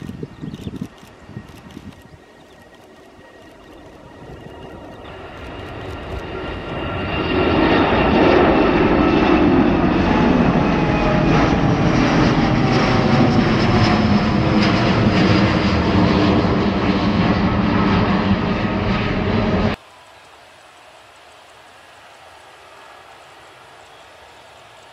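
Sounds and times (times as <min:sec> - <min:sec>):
airliner engines passing: 0:00.0 - 0:24.9.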